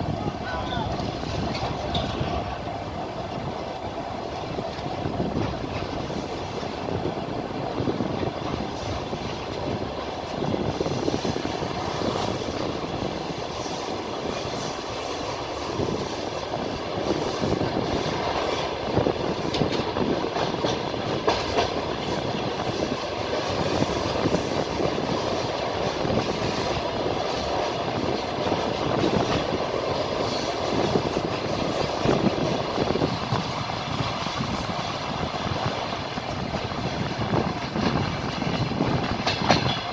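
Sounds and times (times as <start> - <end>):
train wheels clattering: 0.9 - 39.9.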